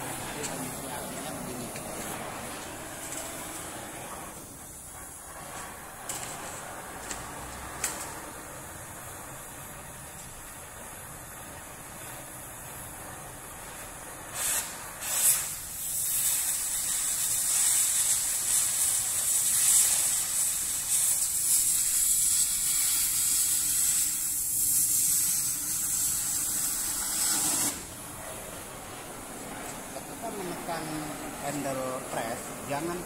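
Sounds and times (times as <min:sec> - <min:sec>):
cutting torch flame hiss: 0:00.0 - 0:33.0
high hiss of oxygen jet: 0:00.0 - 0:33.0
torch short blasts: 0:00.0 - 0:33.0.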